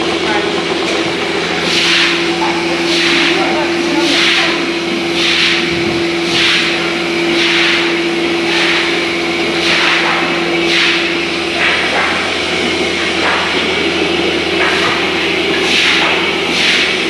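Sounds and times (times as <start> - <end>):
steady machine hum: 0.0 - 17.0
rhythmic air hiss: 1.0 - 17.0.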